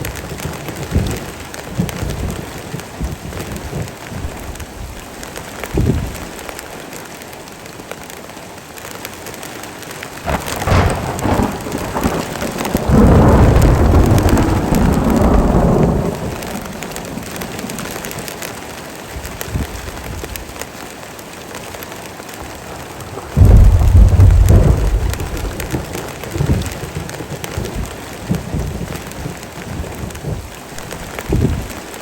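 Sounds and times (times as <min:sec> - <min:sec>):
thunder rumbling: 0:00.0 - 0:06.5, 0:10.2 - 0:20.5, 0:22.4 - 0:32.0
heavy rain falling: 0:00.0 - 0:32.0.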